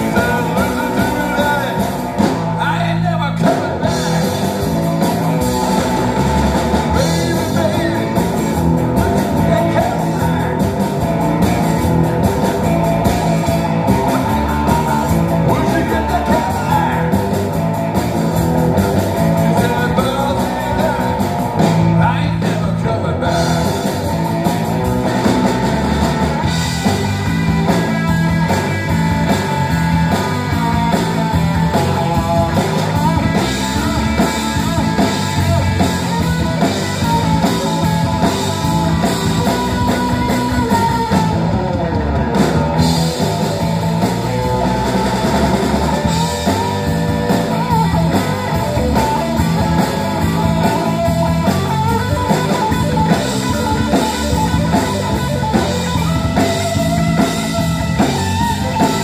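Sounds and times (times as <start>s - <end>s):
drum kit: 0.0s - 59.0s
electric bass: 0.0s - 59.0s
electric guitar: 0.0s - 59.0s.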